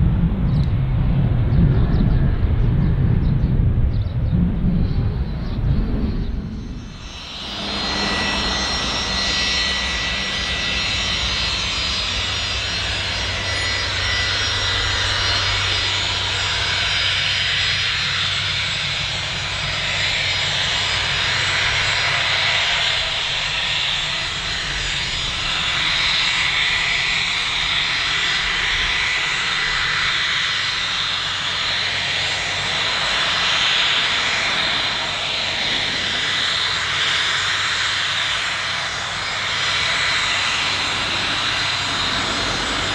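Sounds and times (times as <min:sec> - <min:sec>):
jet engine whine: 0:00.0 - 0:42.9.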